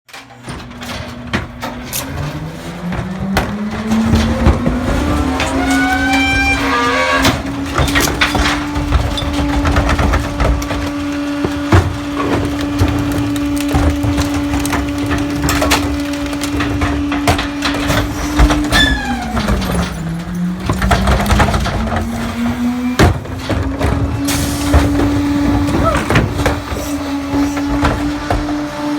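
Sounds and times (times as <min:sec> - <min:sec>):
garbage truck engine: 0:00.1 - 0:28.9
trash crunching and splintering: 0:00.1 - 0:28.9.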